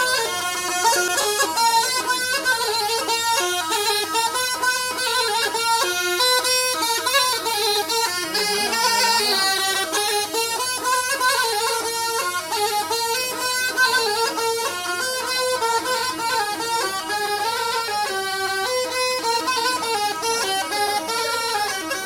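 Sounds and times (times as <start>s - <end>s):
bagpipe playing lively melody: 0.0s - 22.0s.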